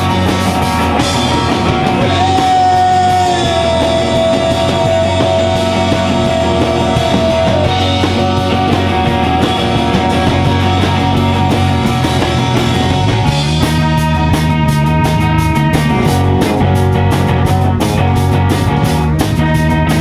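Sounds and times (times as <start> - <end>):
electric guitar: 0.0 - 20.0
rock band playing live: 0.0 - 20.0.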